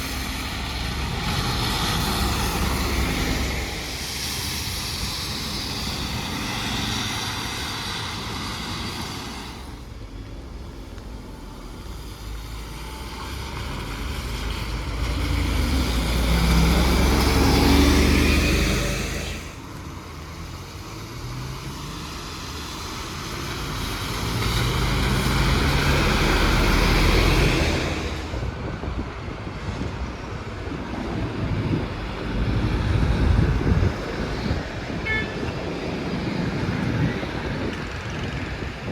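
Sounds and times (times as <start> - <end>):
background traffic: 0.0 - 38.9
large road vehicles passing: 0.0 - 38.9.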